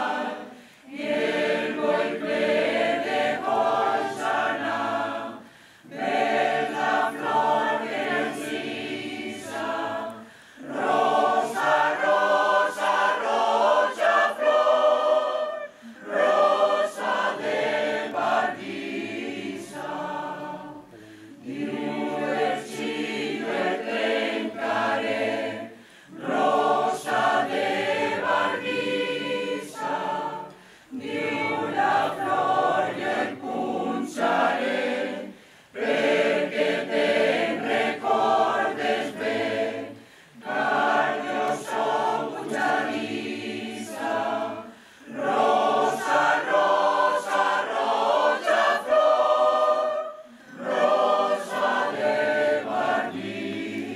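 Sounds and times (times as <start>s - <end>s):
mixed choir singing a cappella: 0.0s - 53.9s.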